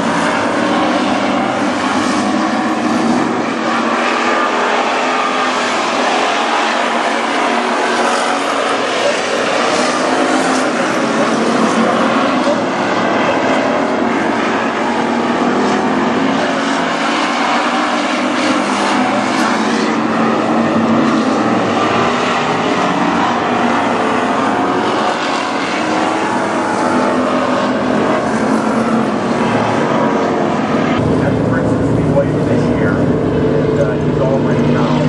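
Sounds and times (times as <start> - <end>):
race car engines racing: 0.0 - 35.0.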